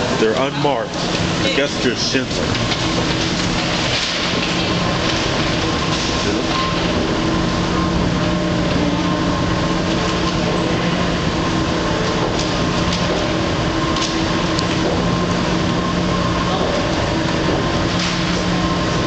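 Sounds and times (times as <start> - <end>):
escalator mechanical rumble: 0.0 - 19.0.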